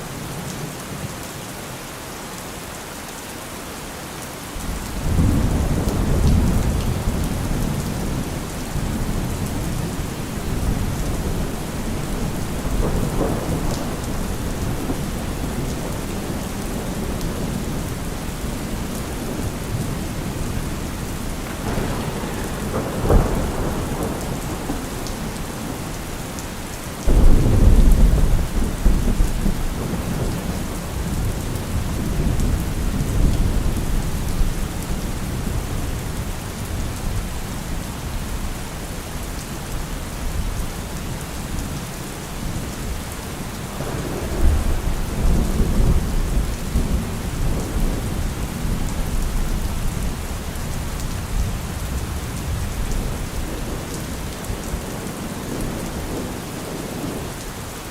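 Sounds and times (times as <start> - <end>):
steady rain falling: 0.0 - 57.9
thunder rumbling: 4.6 - 39.3, 42.4 - 57.4.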